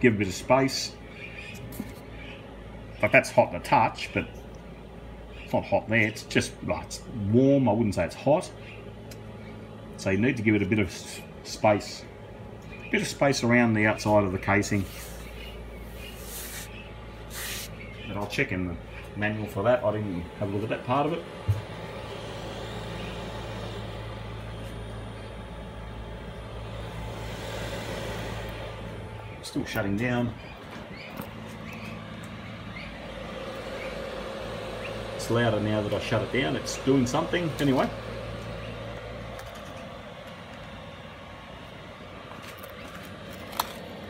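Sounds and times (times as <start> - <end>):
heater fan humming: 0.0 - 44.0.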